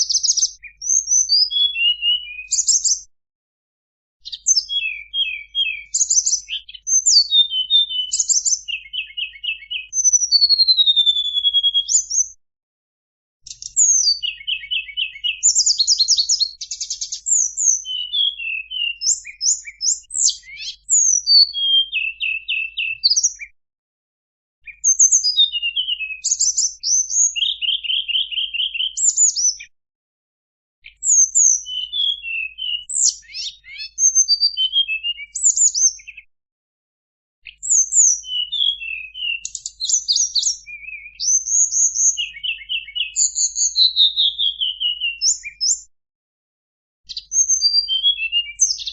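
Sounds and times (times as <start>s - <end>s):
songbird singing: 0.0s - 3.1s, 4.2s - 12.4s, 13.4s - 23.5s, 24.6s - 29.7s, 30.8s - 36.3s, 37.4s - 45.8s, 47.1s - 48.9s.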